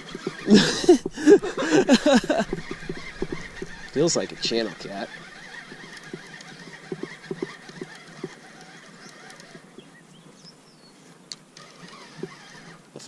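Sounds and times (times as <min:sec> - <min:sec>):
fishing reel whirring: 0:00.0 - 0:09.8, 0:11.2 - 0:13.0.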